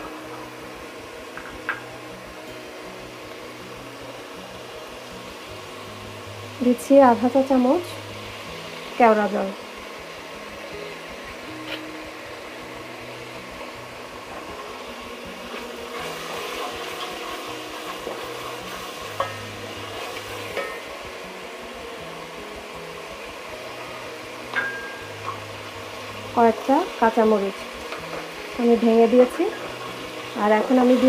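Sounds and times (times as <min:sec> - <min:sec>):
spices sizzling in oil: 0:00.0 - 0:31.0.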